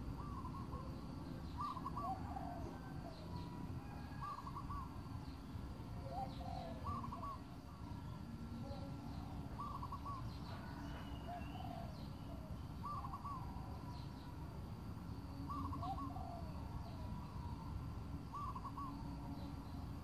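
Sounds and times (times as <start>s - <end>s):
bird calling: 0.0s - 5.4s, 6.0s - 14.3s, 15.4s - 19.6s
low background hiss: 0.0s - 20.0s.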